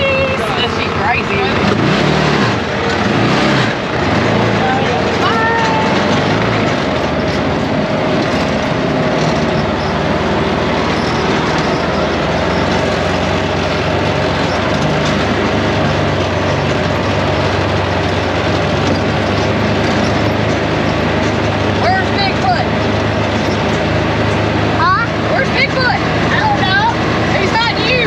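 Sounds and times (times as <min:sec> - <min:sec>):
atv engine drone: 0:00.0 - 0:28.0
tyre noise: 0:00.0 - 0:28.0
wind: 0:00.0 - 0:28.0.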